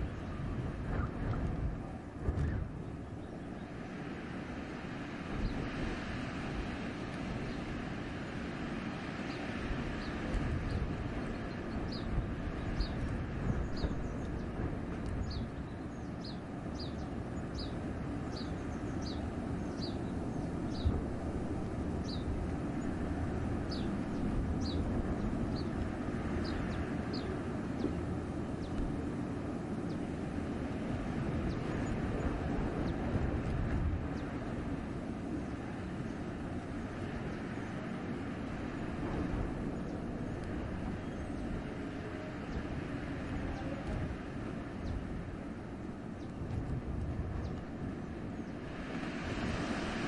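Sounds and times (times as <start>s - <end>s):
wind rushing through forest: 0.0s - 50.0s.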